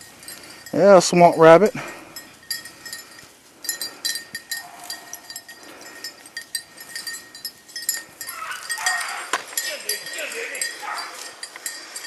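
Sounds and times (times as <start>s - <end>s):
small collar bell jingling: 0.0s - 12.0s.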